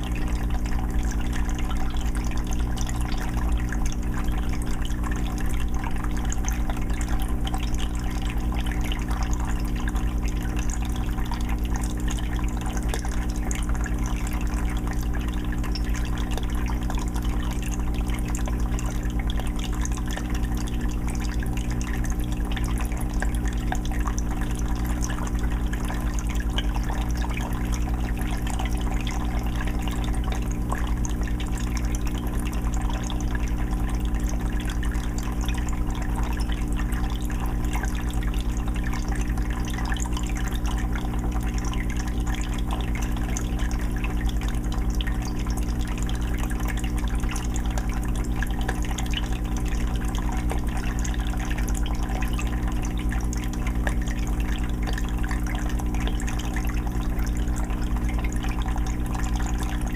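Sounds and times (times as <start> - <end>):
steady low hum: 0.0 - 59.9
water trickling into fish tank: 0.0 - 59.9.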